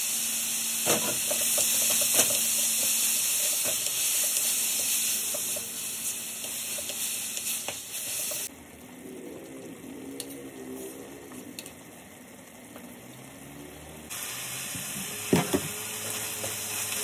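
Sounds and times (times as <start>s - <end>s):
mushrooms sizzling in a wok: 0.0s - 17.0s.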